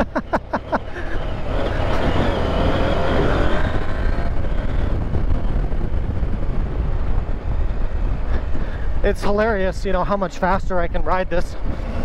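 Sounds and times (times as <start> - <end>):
motorcycle engine accelerating: 0.0 - 9.8
wind and tyre noise: 0.0 - 12.0.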